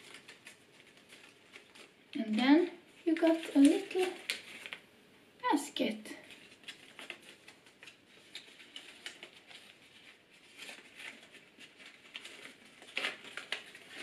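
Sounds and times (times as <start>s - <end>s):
paper rustling and crinkling: 0.0s - 4.9s, 6.2s - 14.0s.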